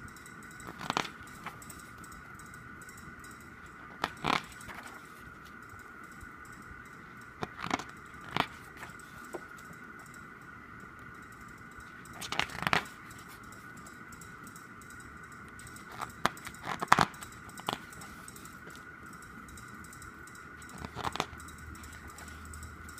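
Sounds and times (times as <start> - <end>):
faint high-pitched hum: 0.0 - 22.9.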